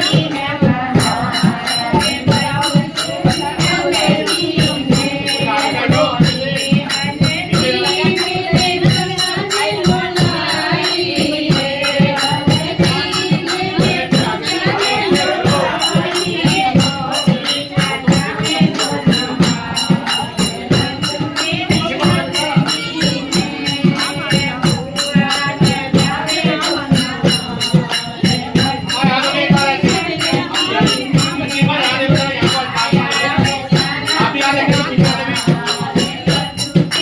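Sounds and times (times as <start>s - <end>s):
drum beat: 0.0s - 37.0s
jingling percussion: 0.0s - 37.0s
person singing: 0.0s - 37.0s.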